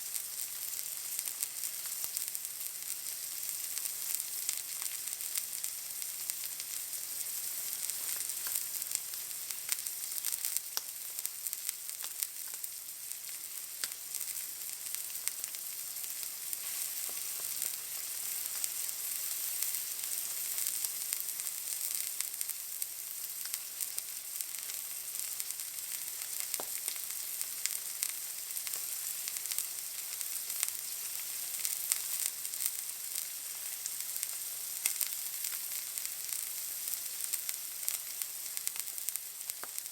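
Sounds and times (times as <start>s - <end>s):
steak sizzling in pan: 0.0s - 39.9s.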